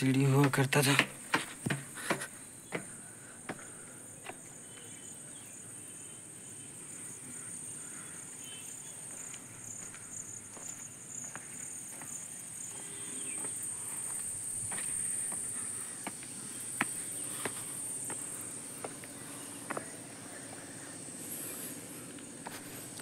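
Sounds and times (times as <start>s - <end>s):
footsteps on stone paving: 0.0s - 4.9s, 7.9s - 23.0s
high-pitched insect drone: 0.0s - 23.0s.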